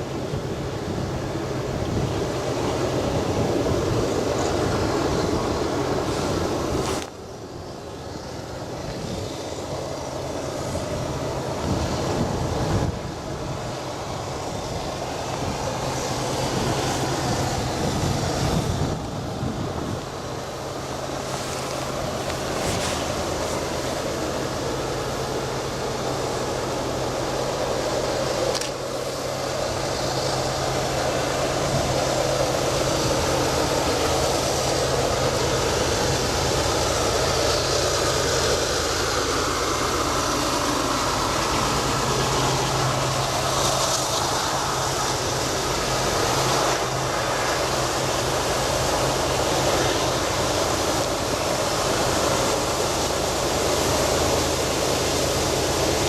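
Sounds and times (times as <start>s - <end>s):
train passing by: 0.0s - 56.0s.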